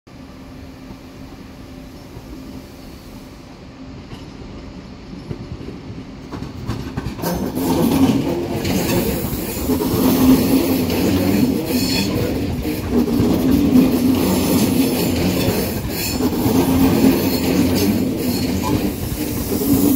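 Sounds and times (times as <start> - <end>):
train wheels on rails: 0.1 - 19.9.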